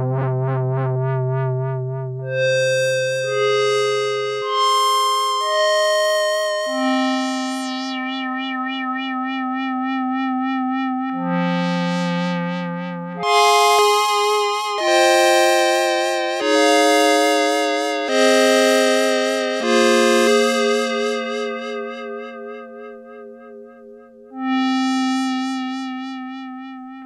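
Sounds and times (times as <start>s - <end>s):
synthesizer chords: 0.0s - 11.9s, 13.1s - 23.0s.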